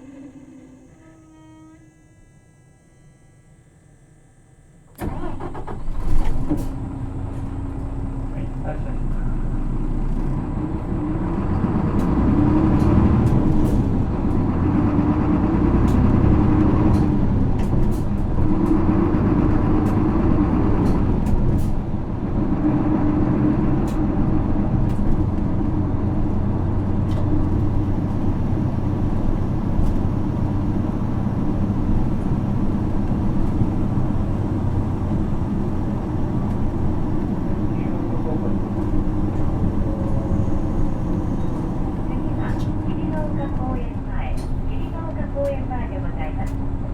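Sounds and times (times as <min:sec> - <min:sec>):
bus diesel engine accelerating: 0:00.0 - 0:01.7, 0:04.8 - 0:46.9
interior rattles and clicks: 0:04.9 - 0:46.9.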